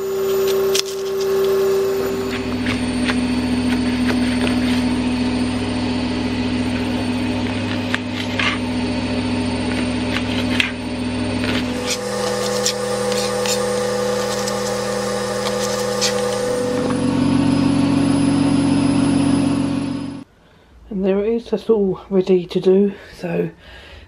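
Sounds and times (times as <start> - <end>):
washing machine motor hum: 0.0 - 20.3.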